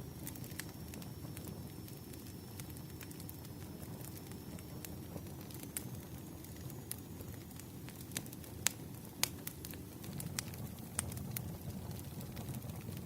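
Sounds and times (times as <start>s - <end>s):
burning wood crackling and popping: 0.0s - 13.0s
campfire flame rumble: 0.0s - 13.0s.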